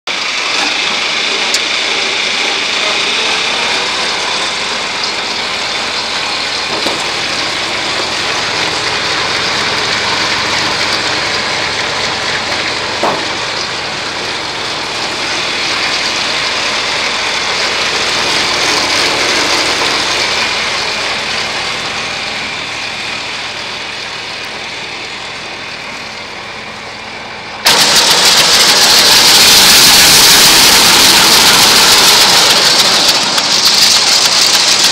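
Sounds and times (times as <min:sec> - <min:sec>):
grinder mixer running: 0:00.1 - 0:34.9.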